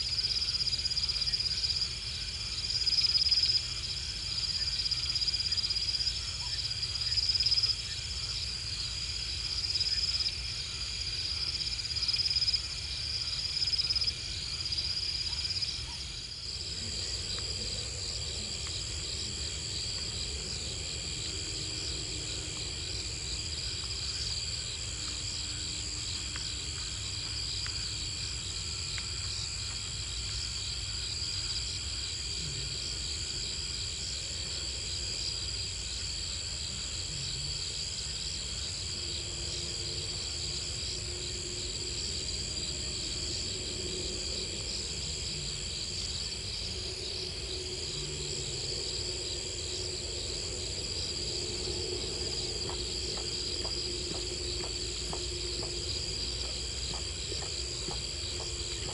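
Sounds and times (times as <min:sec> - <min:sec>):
crickets and insects trilling: 0:00.0 - 0:58.9.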